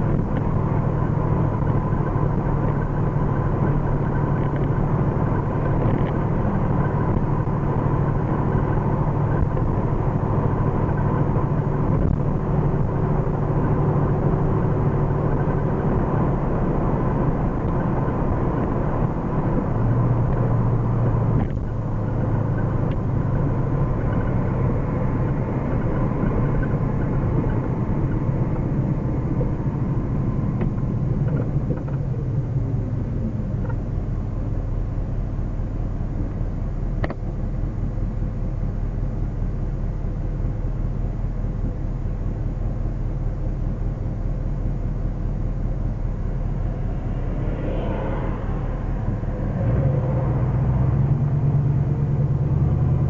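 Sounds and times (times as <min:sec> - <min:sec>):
car engine while driving: 0:00.0 - 0:53.0.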